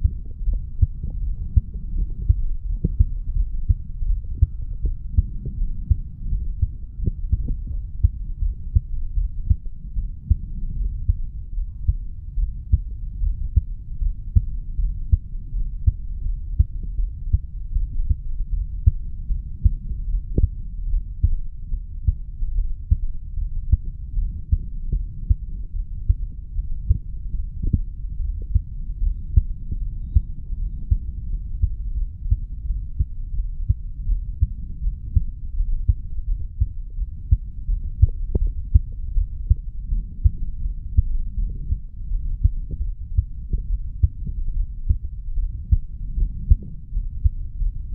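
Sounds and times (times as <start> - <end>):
heartbeat thumps: 0.0 - 47.9
low rumble between heartbeats: 0.0 - 47.9.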